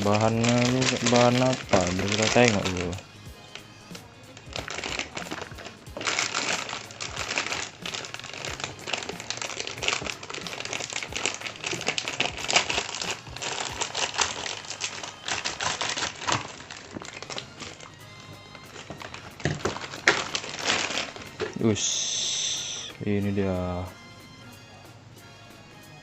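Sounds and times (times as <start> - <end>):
packaging wrap crinkling: 0.0 - 22.9.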